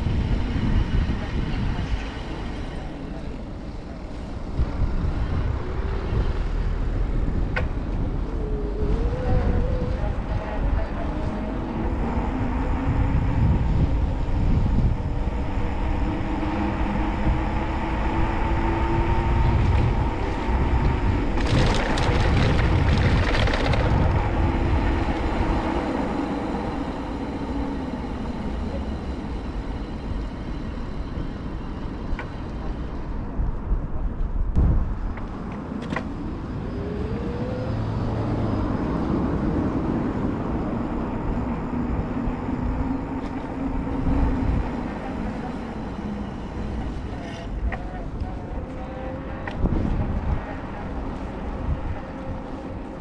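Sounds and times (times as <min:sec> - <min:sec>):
traffic rumble: 0:00.0 - 0:53.0.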